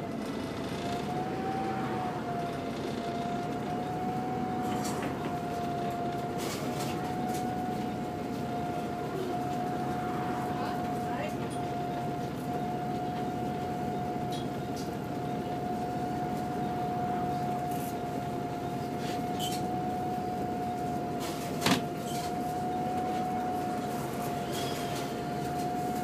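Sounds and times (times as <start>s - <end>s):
bus diesel engine idling: 0.0s - 26.0s
thin steady whine: 1.0s - 26.0s.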